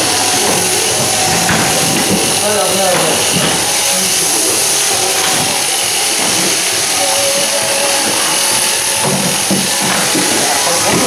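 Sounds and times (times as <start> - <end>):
shearing handpieces buzzing: 0.0 - 11.0.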